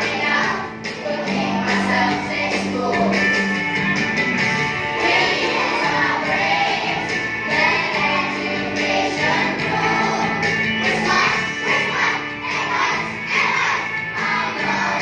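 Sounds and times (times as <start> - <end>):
children singing as a choir: 0.0 - 3.2, 4.9 - 15.0.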